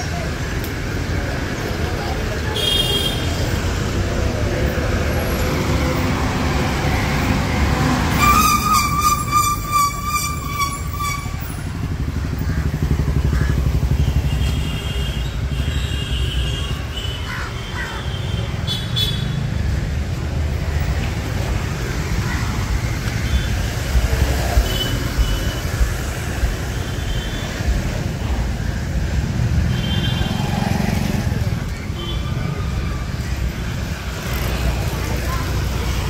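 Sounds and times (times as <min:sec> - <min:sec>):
motorcycles and cars passing: 0:00.0 - 0:09.8, 0:10.6 - 0:36.0.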